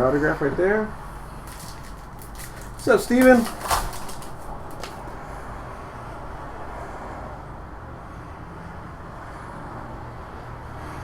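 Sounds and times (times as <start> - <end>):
steady background noise: 0.0 - 9.0.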